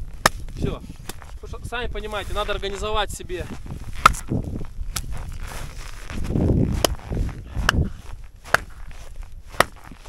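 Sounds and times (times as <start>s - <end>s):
rustling in snow: 0.6s - 10.0s.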